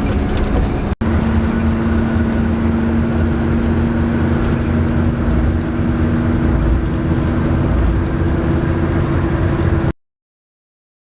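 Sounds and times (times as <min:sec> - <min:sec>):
coach engine and road rumble: 0:00.0 - 0:10.0.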